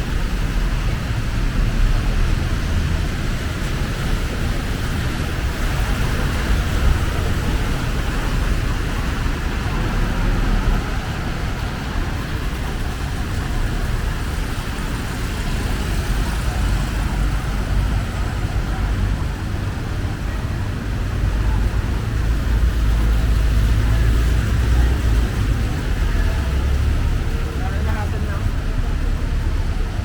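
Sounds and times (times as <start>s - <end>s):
city street traffic: 0.0s - 30.0s.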